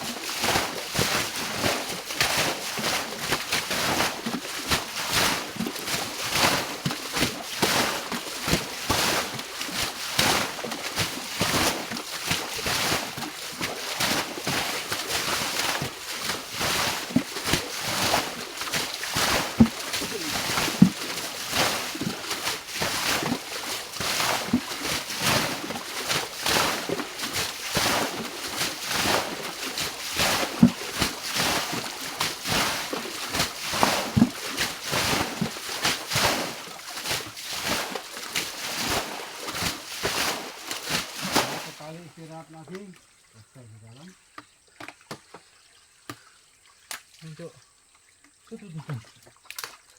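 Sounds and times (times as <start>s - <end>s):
water splashing and sloshing: 0.0s - 49.9s.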